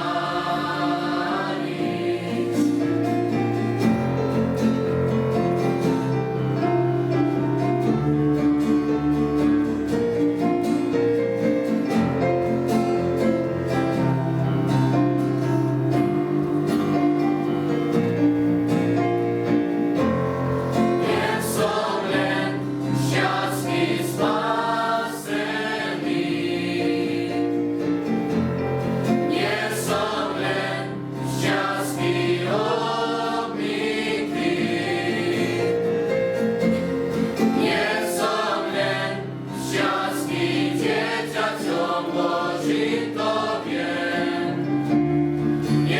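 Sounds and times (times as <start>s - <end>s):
youth choir singing: 0.0s - 7.9s, 11.5s - 45.9s.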